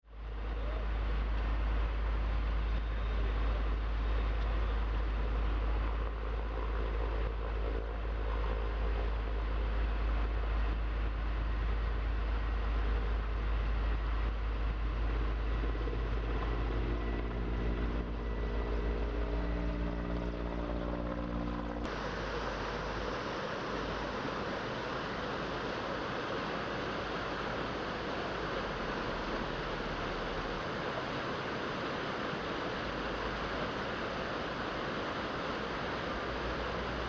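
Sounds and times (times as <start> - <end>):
hum of steady tones: 0.1 - 37.0.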